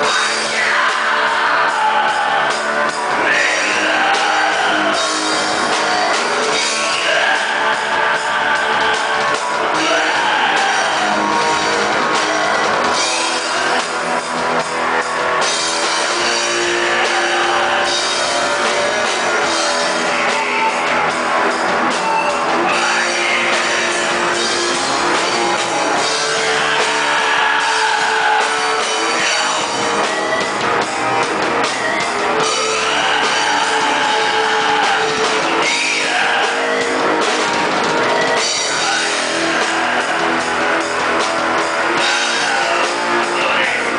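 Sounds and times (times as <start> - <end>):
distorted electric guitars: 0.0 - 43.9
drum kit: 0.0 - 43.9.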